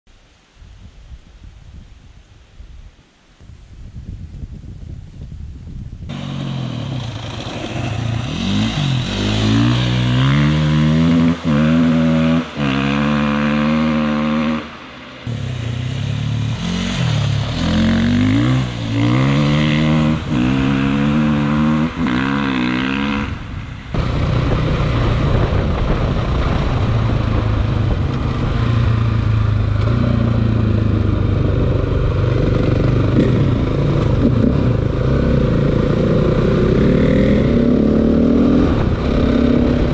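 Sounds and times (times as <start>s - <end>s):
motorcycle engine revving: 6.1s - 39.9s.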